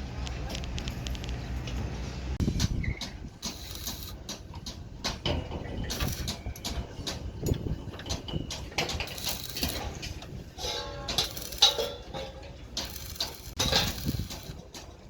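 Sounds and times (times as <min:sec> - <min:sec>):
knocks clicks and clatter: 0:00.2 - 0:15.0.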